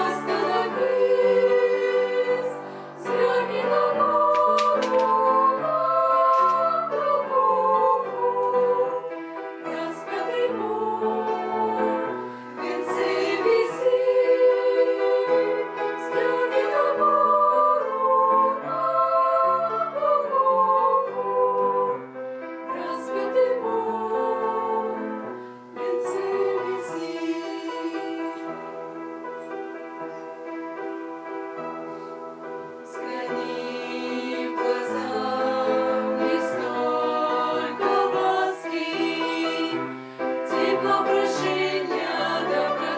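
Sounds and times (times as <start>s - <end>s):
women singing in harmony: 0.0s - 30.5s, 31.8s - 42.9s.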